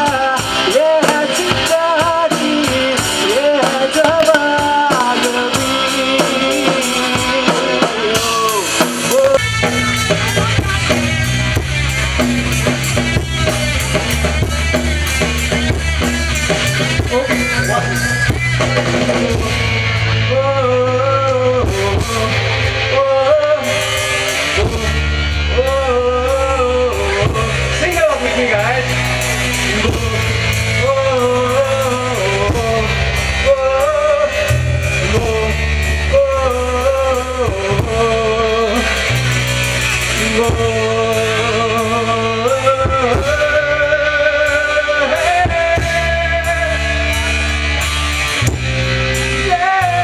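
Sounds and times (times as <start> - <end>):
drum kit: 0.0 - 50.0
electric guitar: 0.0 - 50.0
man singing: 0.0 - 50.0.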